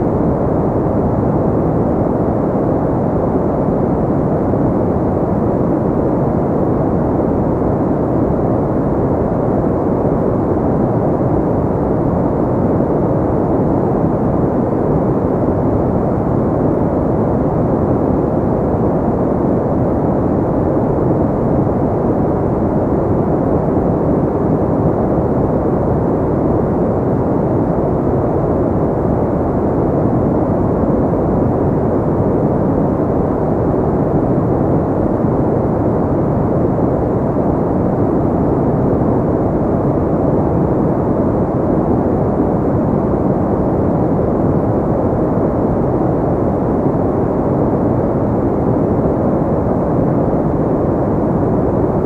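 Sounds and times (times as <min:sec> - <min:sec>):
low muffled white noise: 0:00.0 - 0:52.0.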